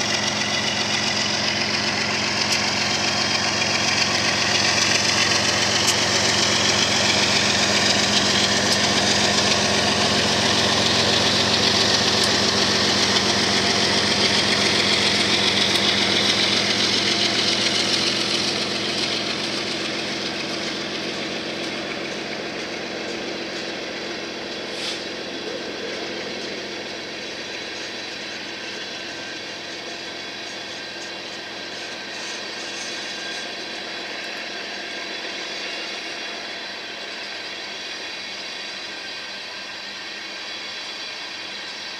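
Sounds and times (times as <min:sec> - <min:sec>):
diesel locomotive engine drone: 0:00.0 - 0:41.9
train cars rolling on rails: 0:00.0 - 0:41.9.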